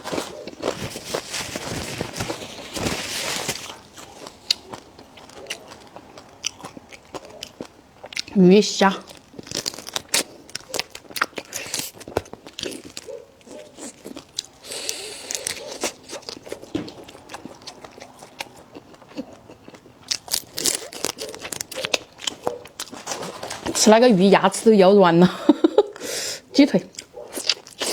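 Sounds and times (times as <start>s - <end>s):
person chewing crunchy food: 0.0s - 23.9s, 25.9s - 27.9s.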